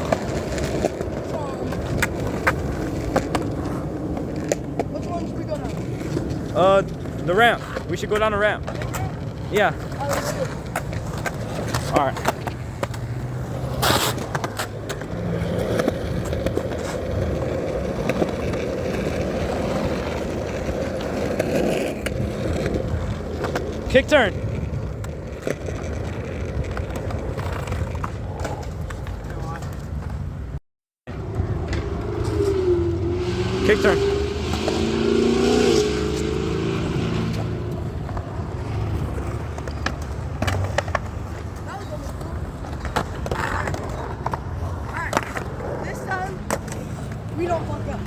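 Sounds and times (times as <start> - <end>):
skateboard wheels rolling: 0.0 - 48.0.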